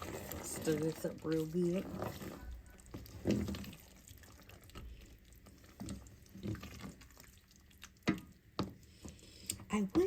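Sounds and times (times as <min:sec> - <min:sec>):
spoon stirring thick chili: 0:00.0 - 0:10.0.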